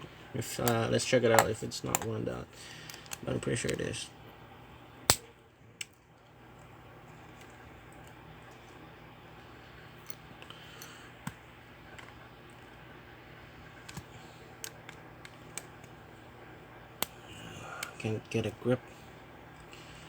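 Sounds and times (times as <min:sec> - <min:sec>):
faint steady background hum: 0:00.0 - 0:20.0.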